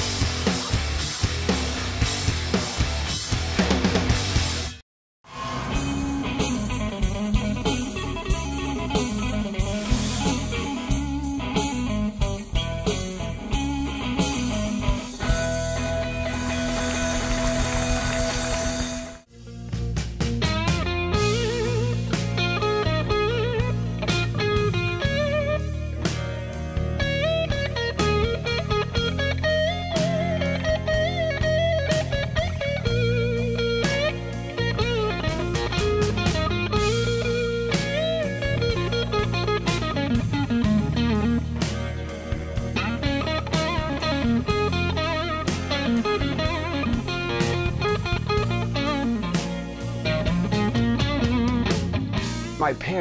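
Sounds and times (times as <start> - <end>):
electric guitar blues music: 0.0 - 4.8, 5.6 - 53.0
drums: 0.0 - 53.0.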